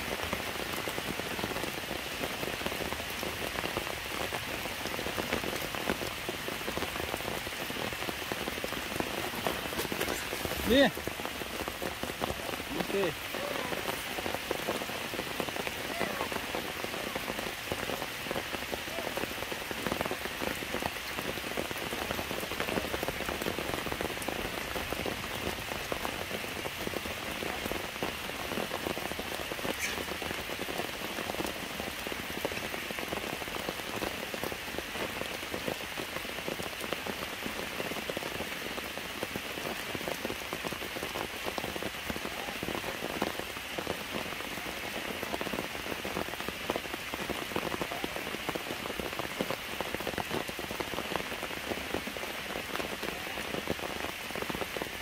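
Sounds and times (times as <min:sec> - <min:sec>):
rain falling on stones and leaves: 0:00.0 - 0:55.0.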